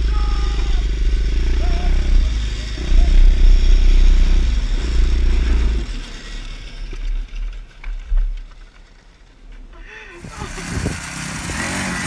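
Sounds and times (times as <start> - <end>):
small motorcycle engine running: 0.0 - 9.4, 10.1 - 12.0.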